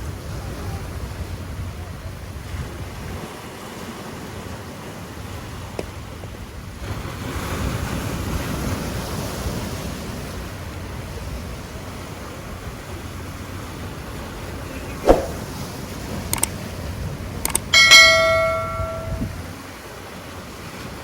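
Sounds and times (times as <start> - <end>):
ocean surf on shore: 2.5 - 21.0.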